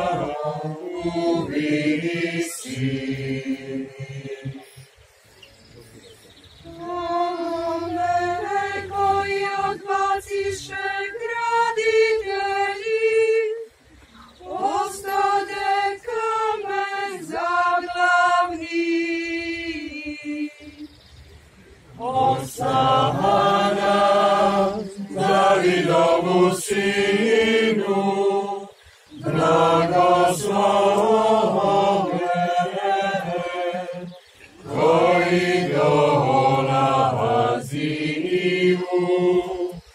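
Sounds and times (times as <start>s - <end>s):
congregation singing: 0.0s - 5.0s, 6.6s - 13.7s, 14.4s - 20.9s, 21.9s - 39.9s.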